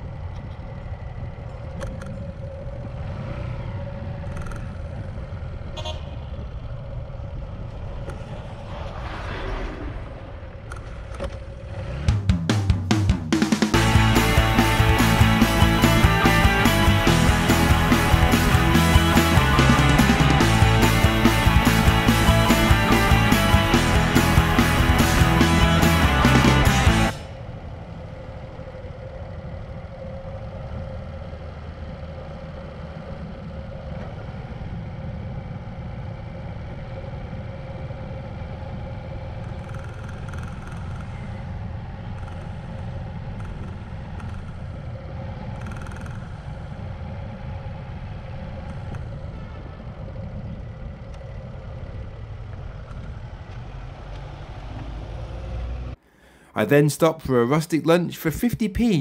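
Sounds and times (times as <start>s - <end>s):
motorbike engine running: 0.0s - 8.6s, 10.7s - 54.9s
road and wind noise: 0.0s - 56.2s.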